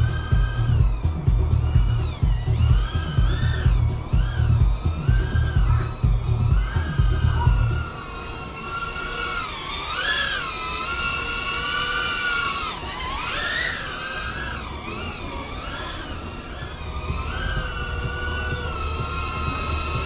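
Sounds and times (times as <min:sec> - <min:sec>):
quadcopter motor whine: 0:00.0 - 0:20.0.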